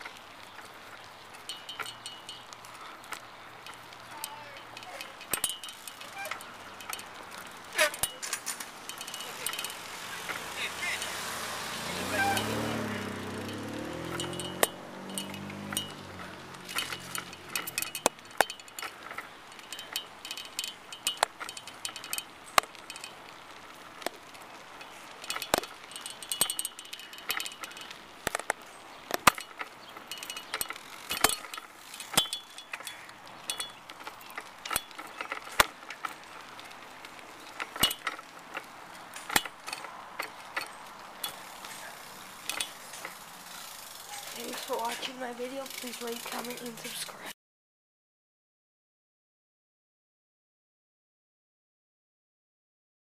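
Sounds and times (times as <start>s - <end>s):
bike chain clinking and rattling: 0.0s - 47.4s.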